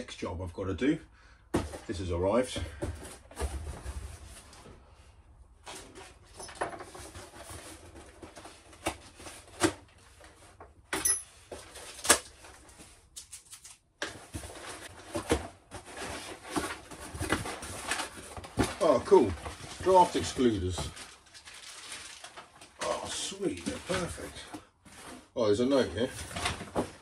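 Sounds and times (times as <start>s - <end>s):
cardboard rustling and scraping: 1.6s - 10.7s, 14.0s - 27.0s.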